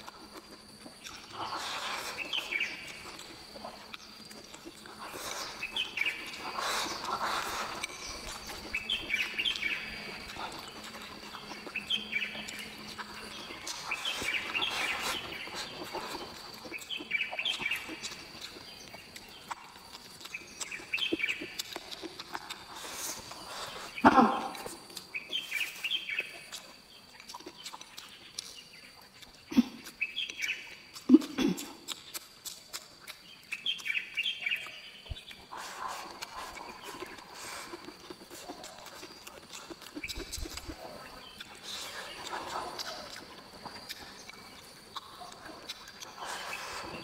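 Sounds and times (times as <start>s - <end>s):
person chewing and lip smacking: 0.0s - 47.0s
bird chirping: 1.0s - 47.0s.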